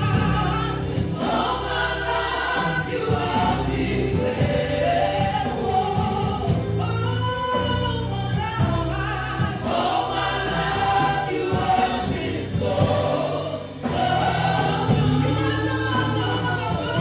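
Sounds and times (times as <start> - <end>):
bass accompaniment: 0.0 - 17.0
choir singing gospel song: 0.0 - 17.0.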